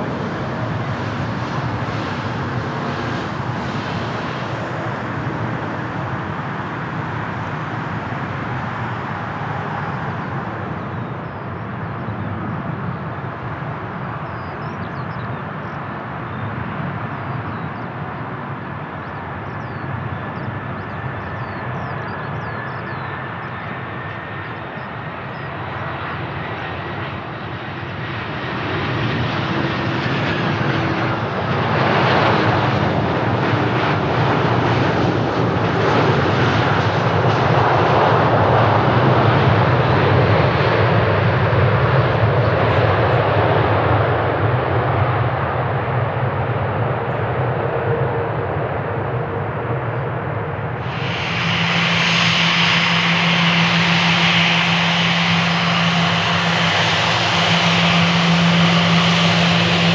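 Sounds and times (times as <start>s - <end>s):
high engine whine: 0.0s - 59.9s
jet engines running: 0.0s - 59.9s.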